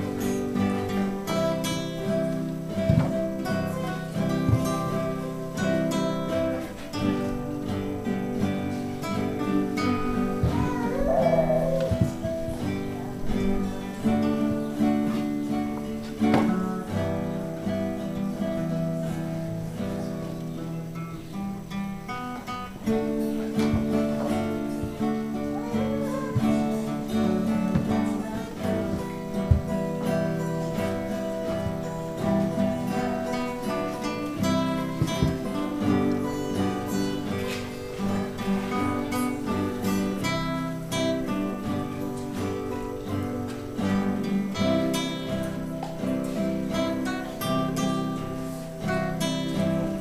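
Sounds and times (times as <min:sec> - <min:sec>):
acoustic guitar music: 0:00.0 - 0:50.0.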